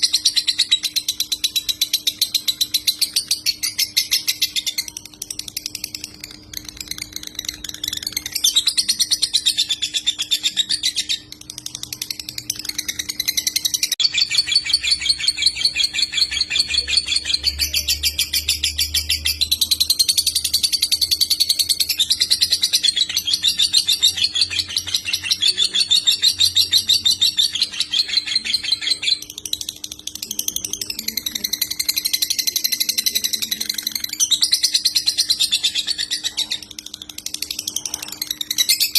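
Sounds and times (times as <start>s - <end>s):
lovebird buzzy chattering trill: 0.0s - 38.9s.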